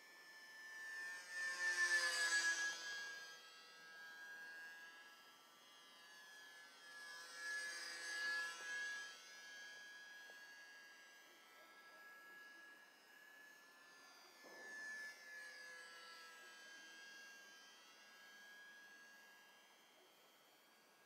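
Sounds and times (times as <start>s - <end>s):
model airplane motor whining: 0.1s - 20.0s.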